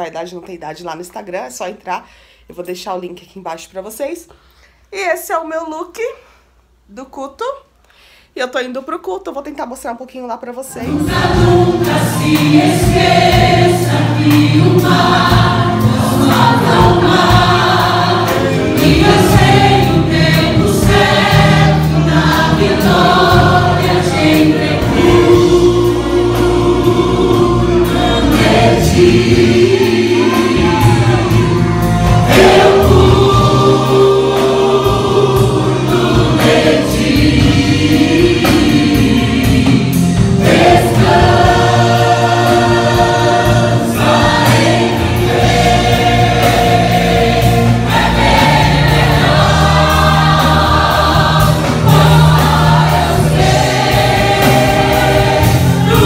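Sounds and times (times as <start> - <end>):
group singing worship song: 10.7 - 56.0
amplified instrumental backing: 10.8 - 56.0.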